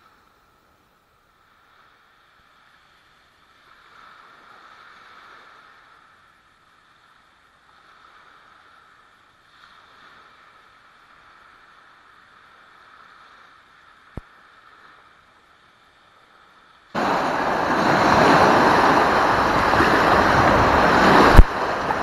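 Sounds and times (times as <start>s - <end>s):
small waves washing onto beach: 0.0s - 22.0s.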